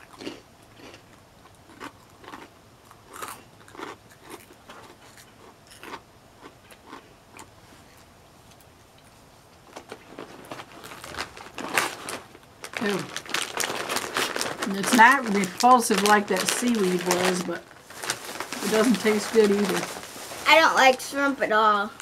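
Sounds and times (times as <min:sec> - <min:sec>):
crispy chips being chewed: 0:00.0 - 0:21.0.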